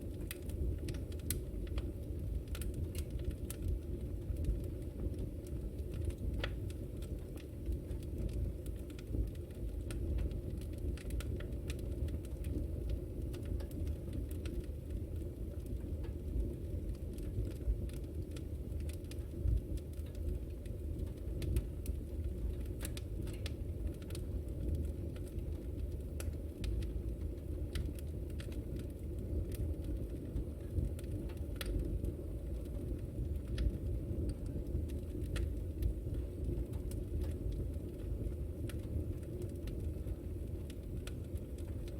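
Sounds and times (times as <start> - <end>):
fire crackling and popping: 0.0 - 41.9
fire flames rushing: 0.0 - 41.9.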